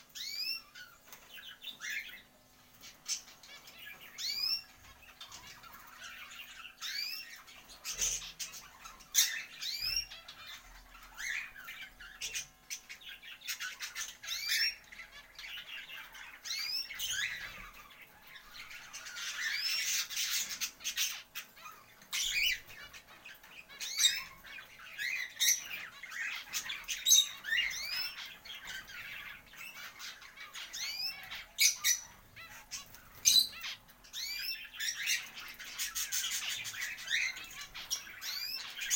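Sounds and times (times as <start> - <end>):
small birds chirping and squawking: 0.0 - 38.9.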